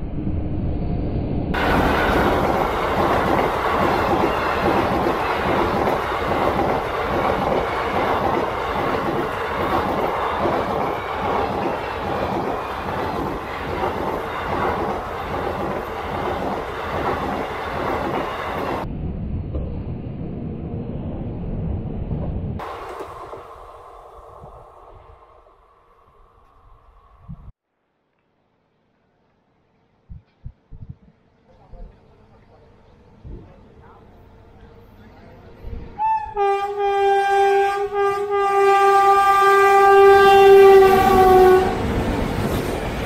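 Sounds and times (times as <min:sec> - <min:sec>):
train passing at speed: 0:00.0 - 0:27.6, 0:31.2 - 0:43.0.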